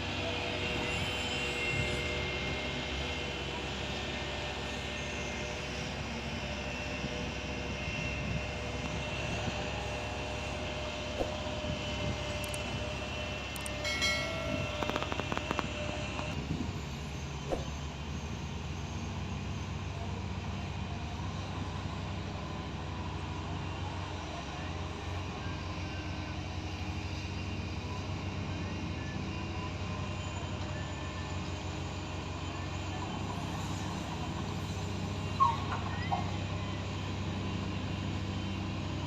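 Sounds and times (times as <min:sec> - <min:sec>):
heavy machinery diesel engines: 0:00.0 - 0:39.0.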